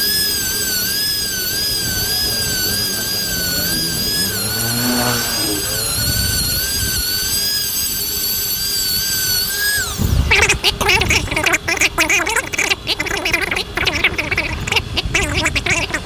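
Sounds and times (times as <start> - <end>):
loud rough noise burst: 0.0 - 16.0
rotary grinder whining: 0.0 - 16.0.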